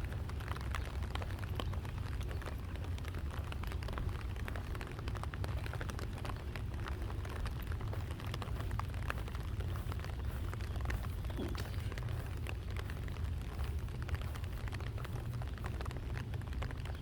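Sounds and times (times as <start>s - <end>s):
rain drops ticking: 0.0s - 17.0s
steady low rumble: 0.0s - 17.0s.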